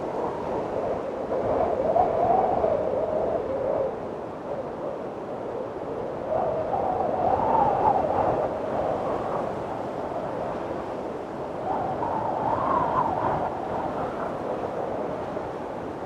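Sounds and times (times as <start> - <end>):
strong gusting wind: 0.0 - 16.0.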